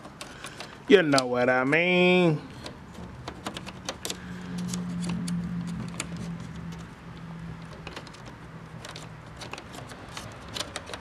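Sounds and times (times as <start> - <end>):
plastic parts clicking and rattling: 0.0 - 1.3, 2.5 - 7.0, 7.6 - 11.0.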